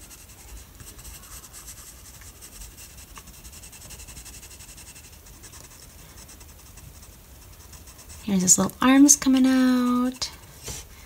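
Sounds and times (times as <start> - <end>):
pencil scratching on paper: 0.0 - 10.8.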